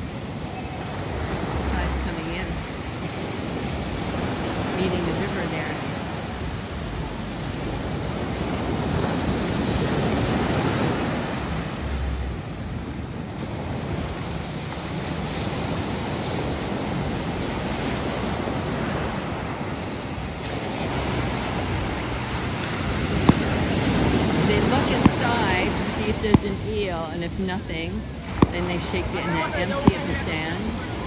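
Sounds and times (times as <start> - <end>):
ocean surf breaking on beach: 0.0 - 31.0.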